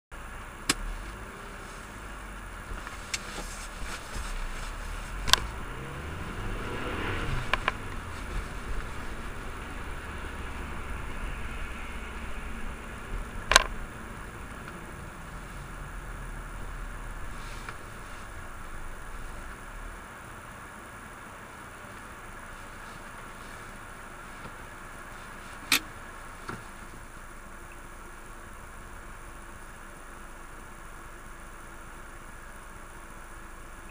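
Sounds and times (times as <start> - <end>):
car engine and road rumble: 0.1 - 33.9.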